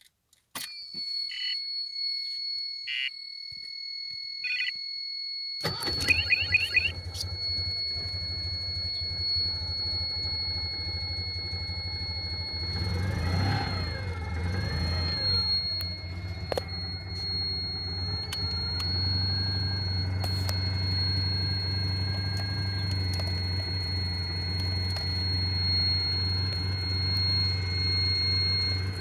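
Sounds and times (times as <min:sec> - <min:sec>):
short beeps: 0:00.6 - 0:29.0
car engine cranking and idling: 0:05.6 - 0:29.0
high electronic whine: 0:05.6 - 0:29.0.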